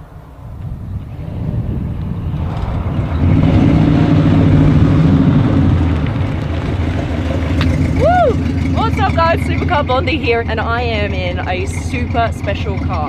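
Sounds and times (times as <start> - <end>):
car engine driving by: 0.0 - 13.0.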